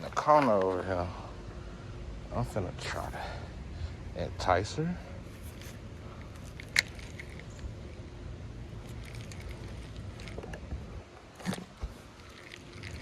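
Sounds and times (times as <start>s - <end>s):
low wind rumble: 1.1s - 13.0s.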